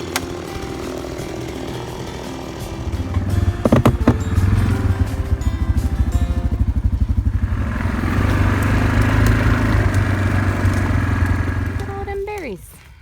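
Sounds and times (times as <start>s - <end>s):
atv engine running: 0.0s - 12.7s.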